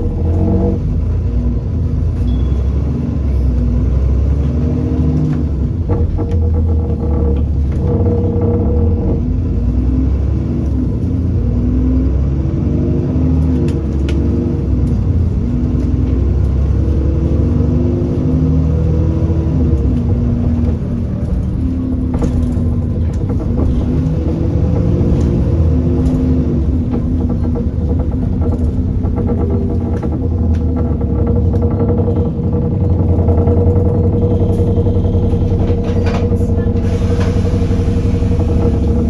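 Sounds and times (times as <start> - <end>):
bus engine rumbling: 0.0 - 39.0.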